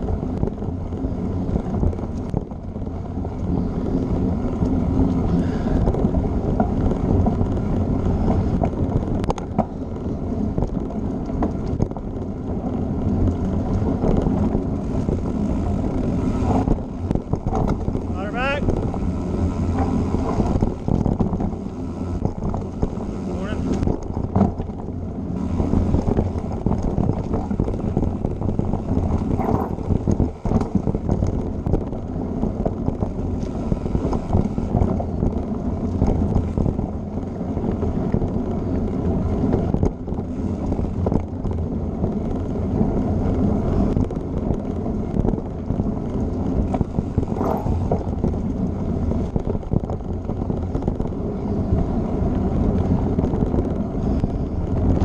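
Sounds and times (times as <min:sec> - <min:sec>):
bike tyres rumbling on dirt trail: 0:00.0 - 0:55.0
wind buffeting microphone: 0:00.0 - 0:55.0.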